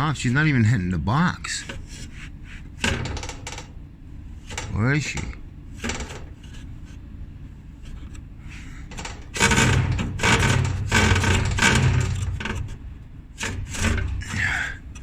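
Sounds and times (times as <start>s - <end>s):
fan scraping metal ball: 0.0s - 15.0s.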